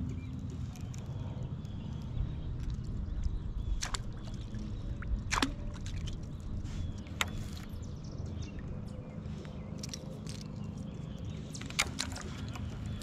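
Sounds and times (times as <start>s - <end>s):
low rumble: 0.0s - 13.0s
water lapping around kayak: 0.0s - 13.0s.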